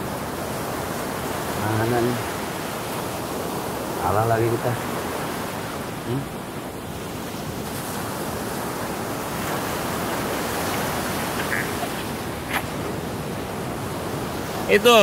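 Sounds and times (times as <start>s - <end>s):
surf breaking on sandy beach: 0.0s - 15.0s.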